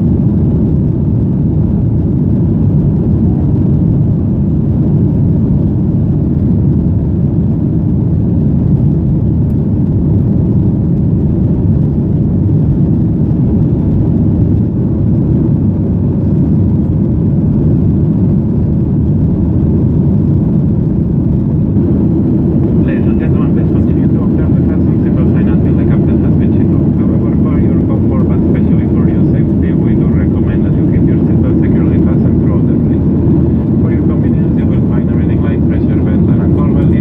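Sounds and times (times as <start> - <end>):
jet engine rumble in cabin: 0.0 - 37.0.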